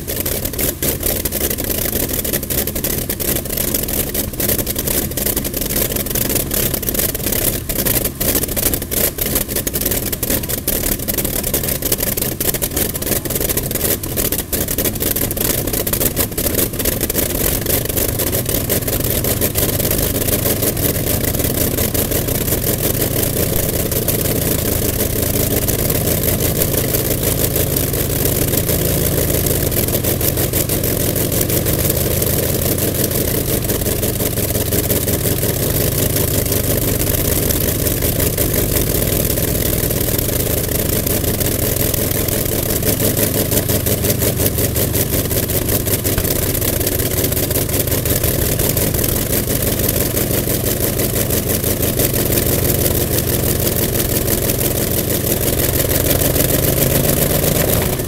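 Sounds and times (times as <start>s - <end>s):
radial aircraft engine running: 0.0s - 58.0s.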